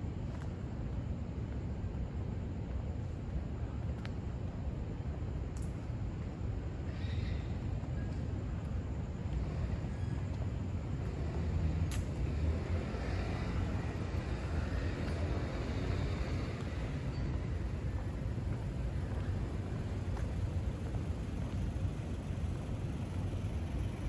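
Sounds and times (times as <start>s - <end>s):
rumble of passing vehicles: 0.0s - 24.0s.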